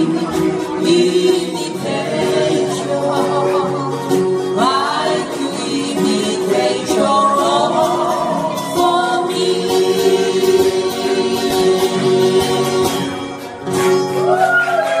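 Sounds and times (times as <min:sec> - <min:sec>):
group singing in harmony: 0:00.0 - 0:13.4
strummed acoustic guitars: 0:00.0 - 0:15.0.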